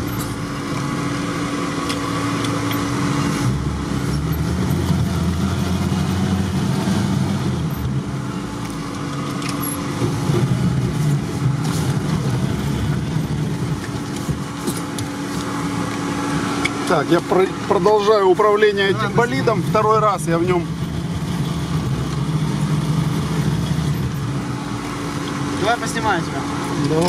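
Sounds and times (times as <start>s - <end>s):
vehicle engine running under load: 0.0s - 27.0s.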